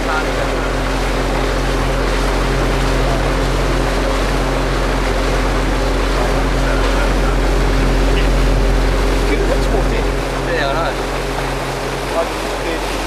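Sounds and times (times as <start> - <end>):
motorboat engine humming: 0.0 - 13.0
wind and water rushing: 0.0 - 13.0.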